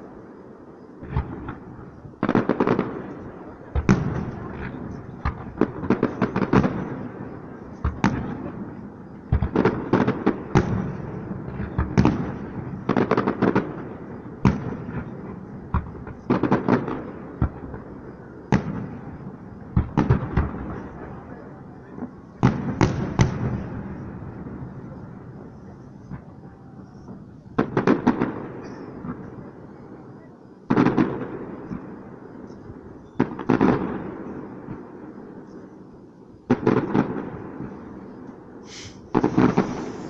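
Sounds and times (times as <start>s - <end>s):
fireworks bursting with rumble: 0.0s - 40.0s.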